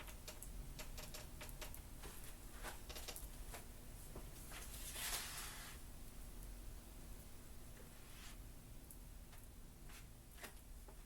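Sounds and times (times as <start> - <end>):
soft hiss: 1.8 - 11.0.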